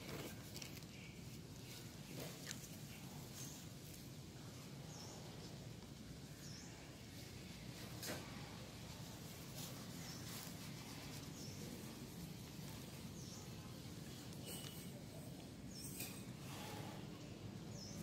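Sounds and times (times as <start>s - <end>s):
faint background noise: 0.0s - 18.0s.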